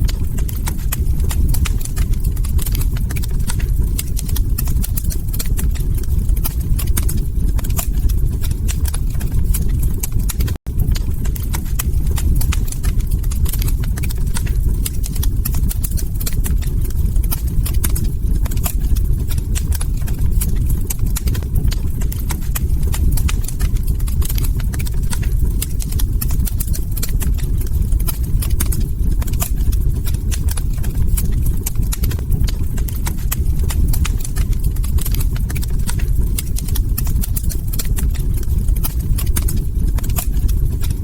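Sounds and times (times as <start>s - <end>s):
log fire crackling: 0.0s - 41.0s.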